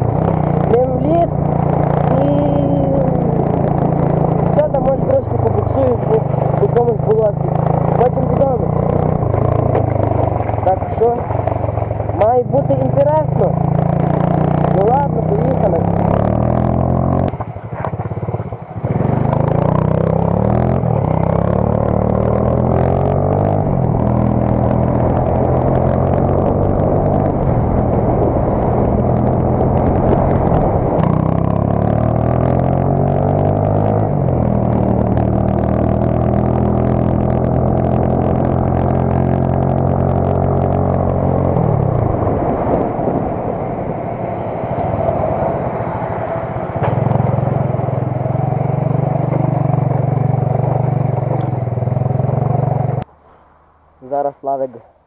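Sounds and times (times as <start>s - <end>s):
moped engine accelerating: 0.0s - 53.1s.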